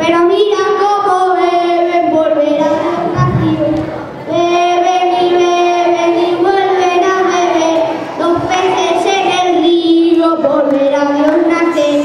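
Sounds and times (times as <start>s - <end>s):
children singing a carol: 0.0s - 12.0s.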